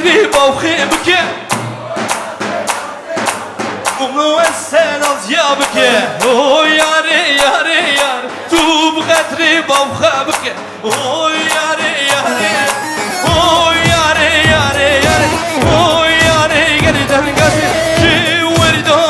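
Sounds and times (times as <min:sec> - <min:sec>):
fast drum beat: 0:00.0 - 0:19.0
person singing: 0:00.0 - 0:19.0.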